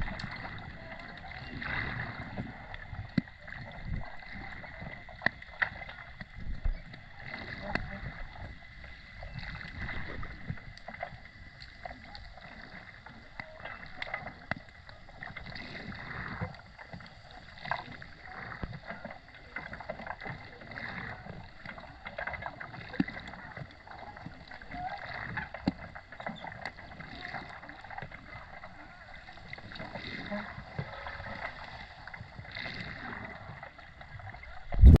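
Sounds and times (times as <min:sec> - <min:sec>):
muffled underwater water movement: 0:00.0 - 0:35.0
small clicks and crackles: 0:00.0 - 0:35.0.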